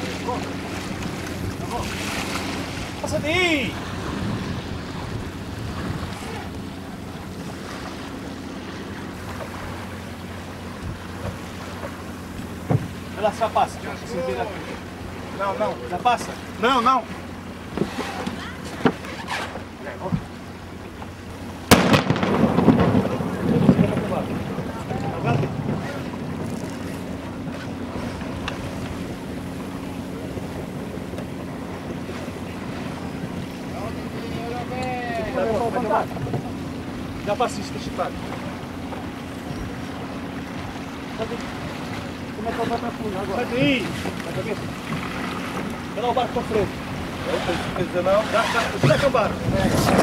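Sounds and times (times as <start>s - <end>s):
wind buffeting the microphone: 0.0s - 14.4s, 21.3s - 50.0s
water washing along a boat hull: 0.0s - 50.0s.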